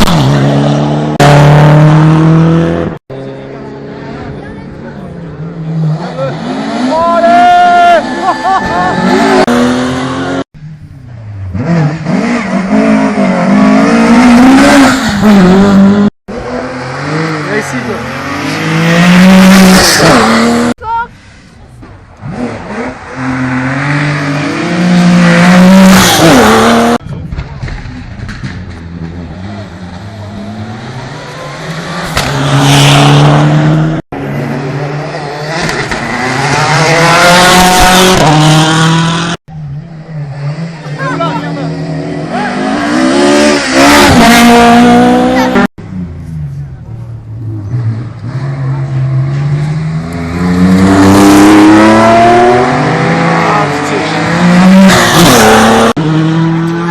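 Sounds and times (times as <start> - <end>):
rally car engine revving: 0.0 - 20.8, 22.2 - 56.9.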